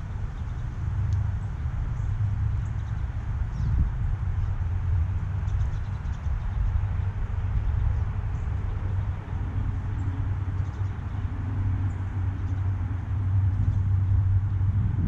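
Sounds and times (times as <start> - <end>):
low outdoor rumble: 0.0 - 15.0
small birds chirping: 0.2 - 4.7, 5.3 - 14.2.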